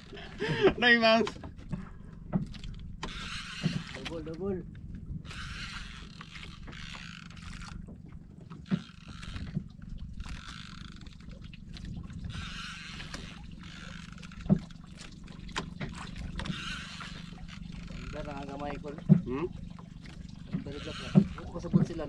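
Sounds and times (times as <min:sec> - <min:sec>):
water sloshing against boat hull: 0:00.0 - 0:22.0.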